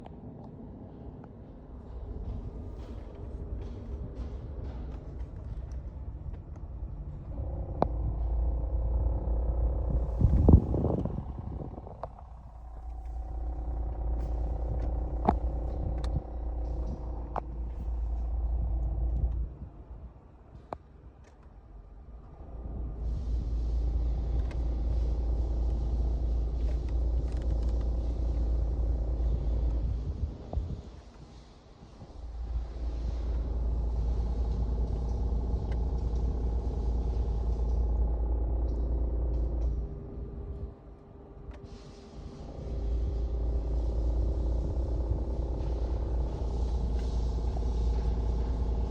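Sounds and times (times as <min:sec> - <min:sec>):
car engine deep rumble: 0:00.0 - 0:48.9.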